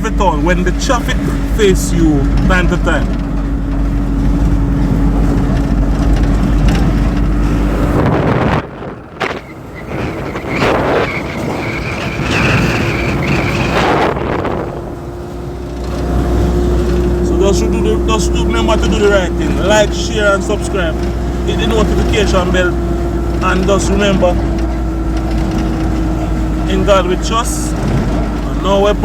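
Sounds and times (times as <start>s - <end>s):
car engine and road hum: 0.0s - 29.0s.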